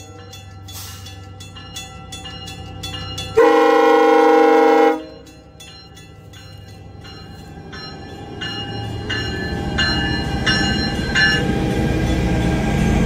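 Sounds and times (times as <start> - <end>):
bell ringing: 0.0 - 3.8, 4.9 - 12.3.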